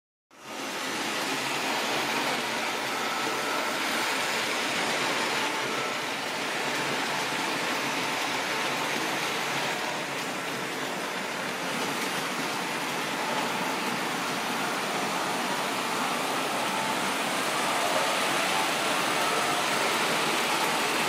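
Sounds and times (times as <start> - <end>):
wheels running on metal track: 0.3 - 21.0
model train motor whirring: 0.4 - 21.0.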